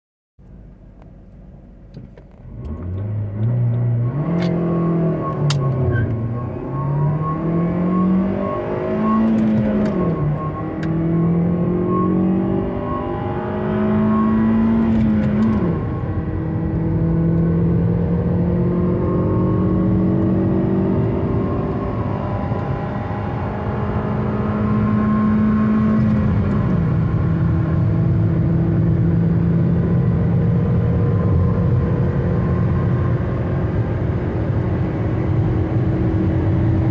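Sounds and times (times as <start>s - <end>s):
car engine accelerating: 1.7s - 36.9s.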